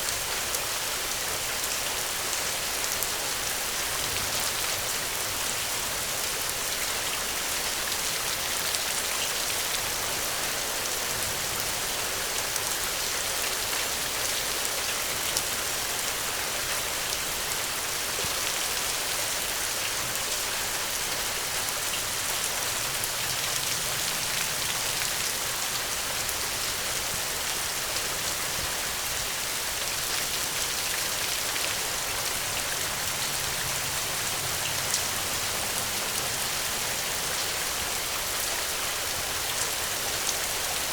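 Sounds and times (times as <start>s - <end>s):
rain falling on ground: 0.0s - 40.9s.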